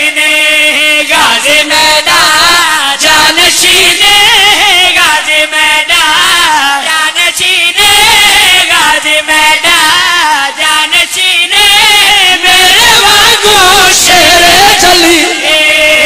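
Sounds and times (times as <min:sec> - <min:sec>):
men chanting into microphones: 0:00.0 - 0:16.0.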